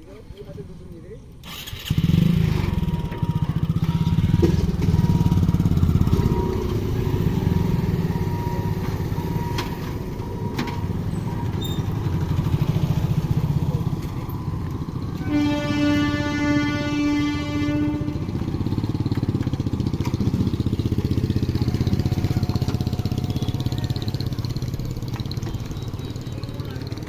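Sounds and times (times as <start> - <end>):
motorcycle engines idling: 1.3 - 27.0.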